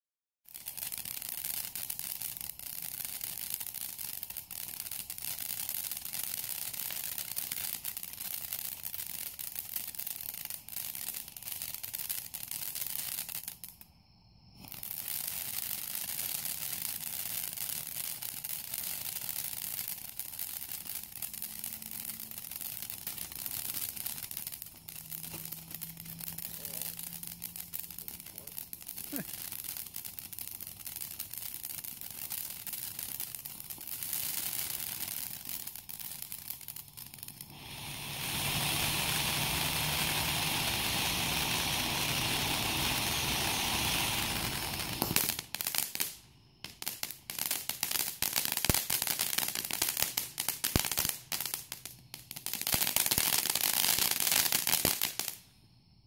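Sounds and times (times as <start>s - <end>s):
firework crackling and popping: 0.4s - 56.0s
firework fountain hissing: 0.5s - 56.0s.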